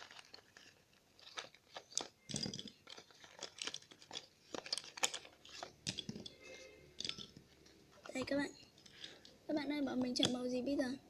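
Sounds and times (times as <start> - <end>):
plastic containers clicking and rustling: 0.0 - 10.5.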